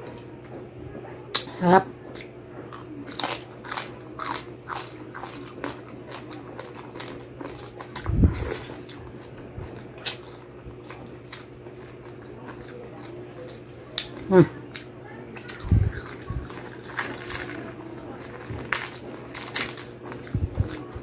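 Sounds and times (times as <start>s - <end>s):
crunchy chewing of crispy skin: 1.3s - 21.0s.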